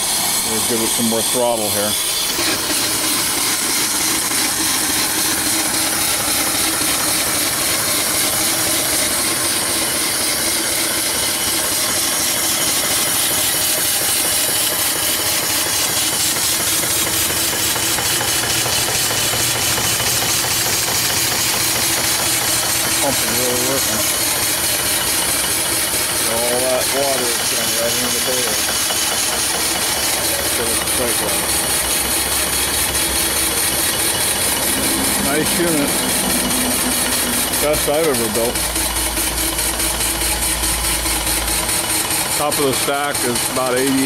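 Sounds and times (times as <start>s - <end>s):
steam engine running fast: 0.0s - 44.0s
steam hissing: 0.0s - 44.0s.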